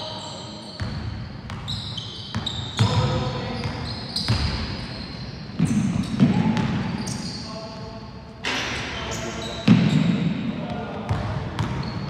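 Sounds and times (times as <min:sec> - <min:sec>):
sneakers squeaking: 0:00.0 - 0:10.5, 0:11.1 - 0:12.0.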